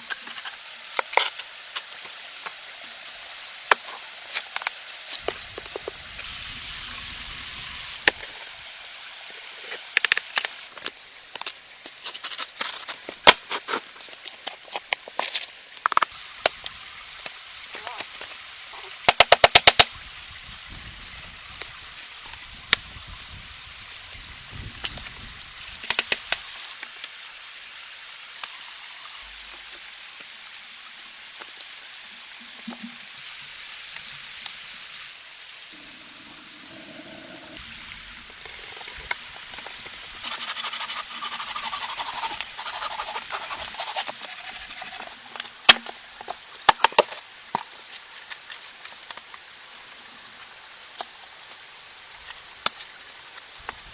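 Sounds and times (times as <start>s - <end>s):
rain hiss: 0.0s - 53.9s.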